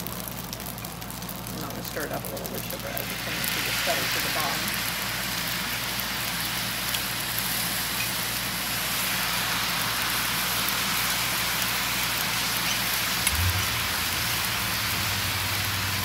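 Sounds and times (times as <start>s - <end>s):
sauce sizzling on hot griddle: 0.0s - 16.0s.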